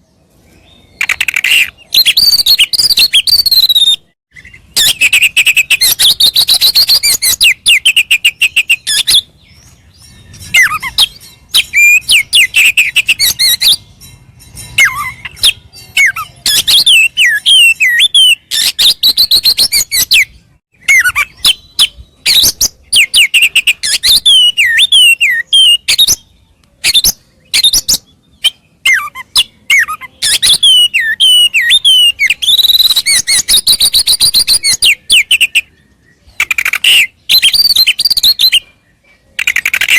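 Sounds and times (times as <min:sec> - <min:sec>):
magpie-robin singing: 0:00.4 - 0:39.9.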